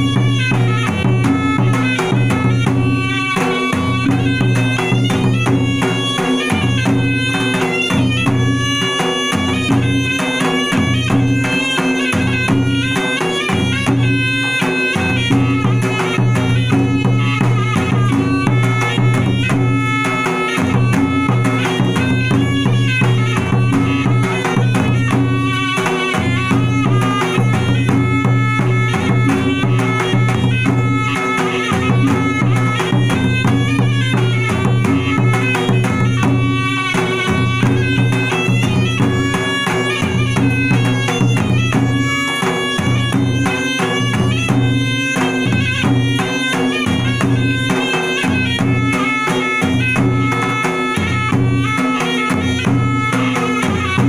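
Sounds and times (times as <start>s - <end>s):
reedy oboe melody: 0.0s - 54.0s.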